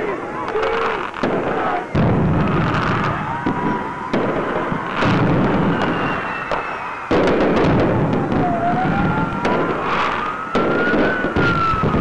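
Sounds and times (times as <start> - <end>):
loud explosion-like blasts: 0.8 - 12.0
siren wailing: 1.4 - 12.0.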